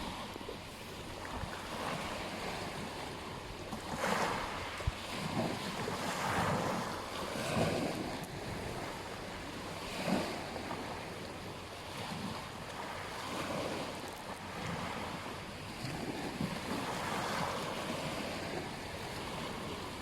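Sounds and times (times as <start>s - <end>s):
ocean waves on beach: 0.0s - 20.0s
wind on microphone: 0.0s - 20.0s.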